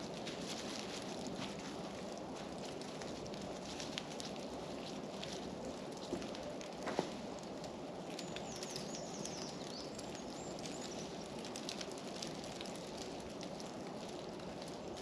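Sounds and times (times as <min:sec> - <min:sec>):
ice patters and crackles: 0:00.0 - 0:15.0.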